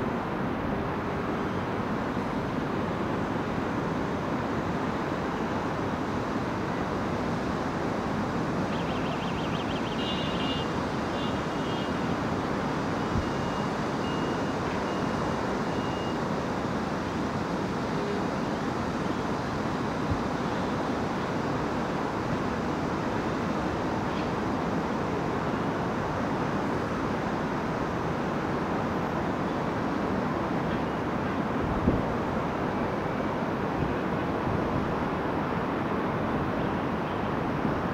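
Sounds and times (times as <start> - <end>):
traffic noise: 0.0 - 37.9.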